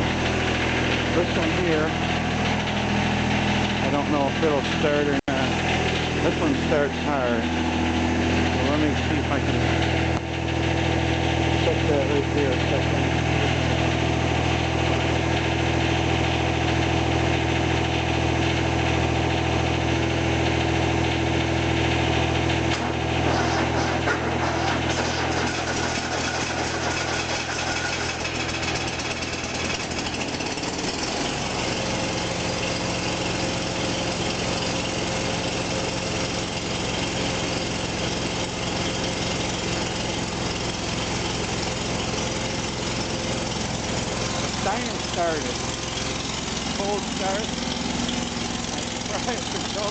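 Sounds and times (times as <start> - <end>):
second tractor engine running: 0.0 - 49.9
tractor engine idling: 0.0 - 49.9.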